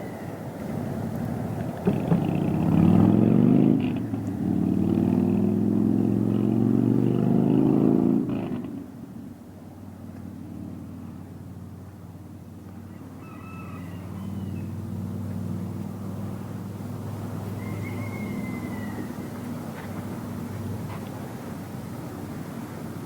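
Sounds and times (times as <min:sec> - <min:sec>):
vehicle engine running: 0:00.6 - 0:13.2, 0:14.0 - 0:23.0.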